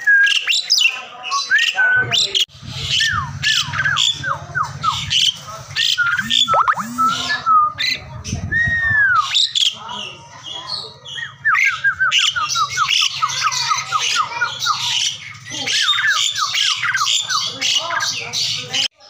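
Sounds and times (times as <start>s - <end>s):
starling singing: 0.2s - 8.5s, 9.2s - 18.9s.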